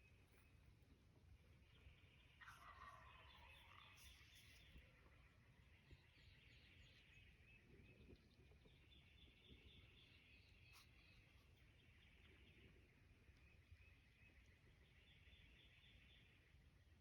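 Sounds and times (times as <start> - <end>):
distant songbirds chirping: 1.4 - 17.0.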